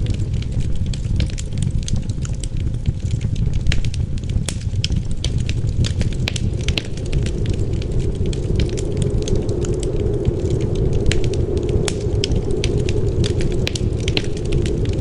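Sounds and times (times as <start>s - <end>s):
low rumble of wind: 0.0s - 15.0s
wood fire crackling: 0.0s - 15.0s.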